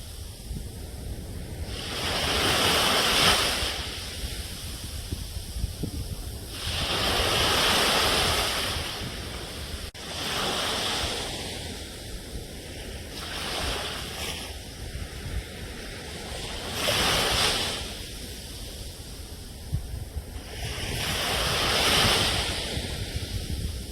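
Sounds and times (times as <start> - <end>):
ocean waves washing onto shore: 0.0 - 23.9.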